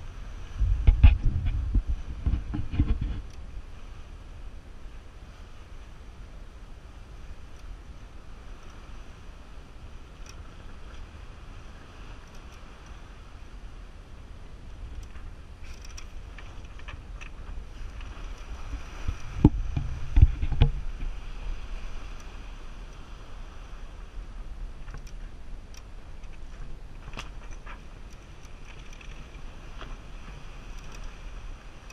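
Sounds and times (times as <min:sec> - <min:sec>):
water rushing along a hull: 0:00.0 - 0:31.9
wind buffeting microphone: 0:00.0 - 0:31.9.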